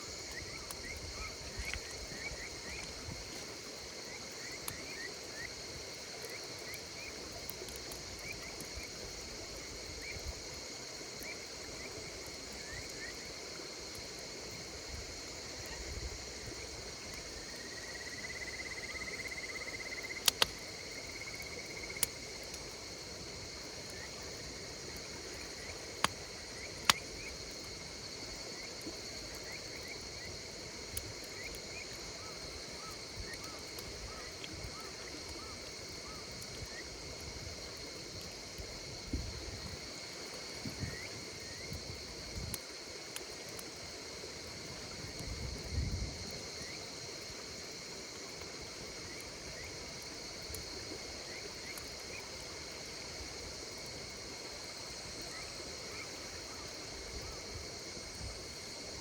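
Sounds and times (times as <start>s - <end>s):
insects chirping: 0.0s - 59.0s
wood fire crackling: 0.0s - 59.0s.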